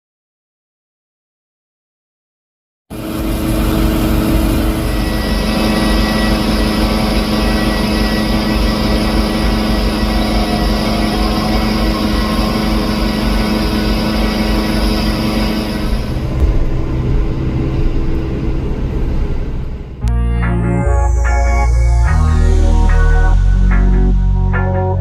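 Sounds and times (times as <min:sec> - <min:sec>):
jet engines running: 0:02.9 - 0:25.0.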